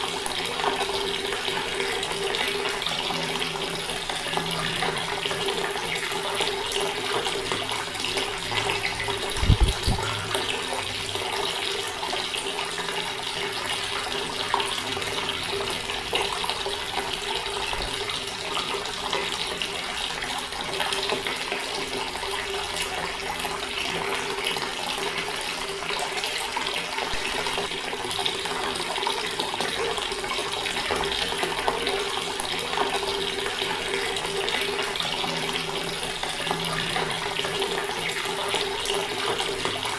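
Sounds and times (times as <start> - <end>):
water tap running: 0.0 - 39.9.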